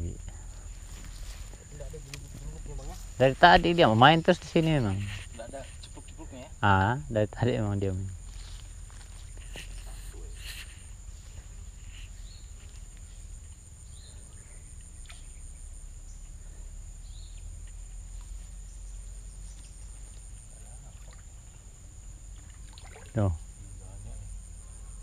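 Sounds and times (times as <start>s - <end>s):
low steady rumble: 0.0s - 22.7s
insects trilling: 0.0s - 25.0s.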